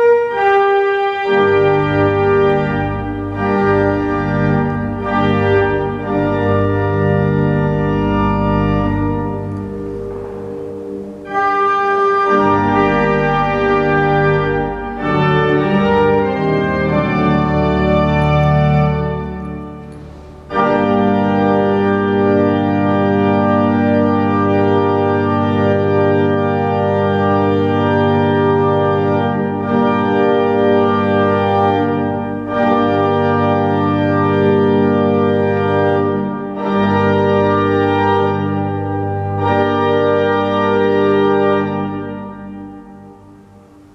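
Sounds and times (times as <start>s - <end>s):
pipe organ playing chords: 0.0s - 43.9s.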